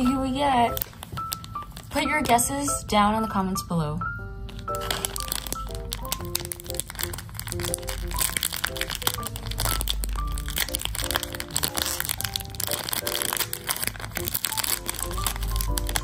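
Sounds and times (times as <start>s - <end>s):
plastic packaging crinkling: 0.0s - 2.5s, 4.5s - 16.0s.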